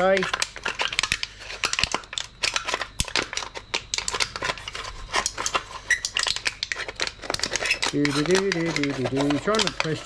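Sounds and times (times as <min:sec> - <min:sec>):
aluminium can crackling and popping: 0:00.0 - 0:10.0.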